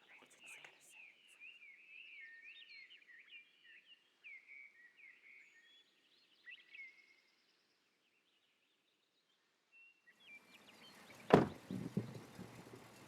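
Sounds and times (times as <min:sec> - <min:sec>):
birdsong chirps and warbles: 0:00.0 - 0:13.0.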